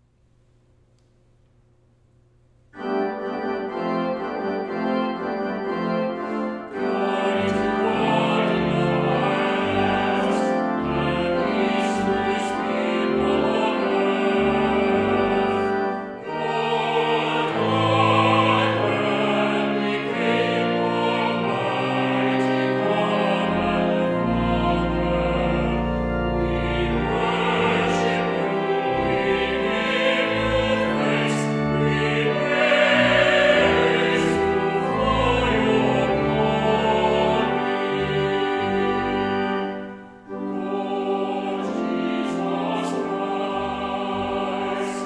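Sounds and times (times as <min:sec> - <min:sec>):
church organ playing: 0:02.8 - 0:45.0
mixed choir singing: 0:06.6 - 0:45.0.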